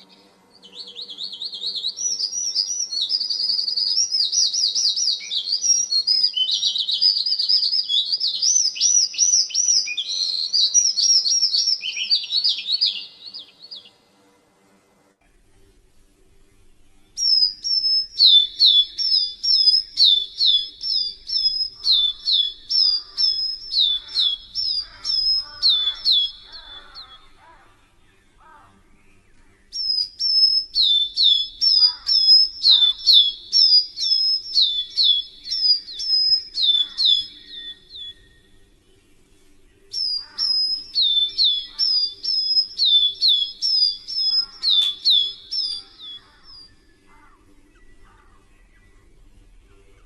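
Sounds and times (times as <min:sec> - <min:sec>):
fainter lower bird chirps: 0:00.0 - 0:14.0, 0:15.6 - 0:50.0
songbird chirping falling notes: 0:00.0 - 0:14.2, 0:15.3 - 0:50.0.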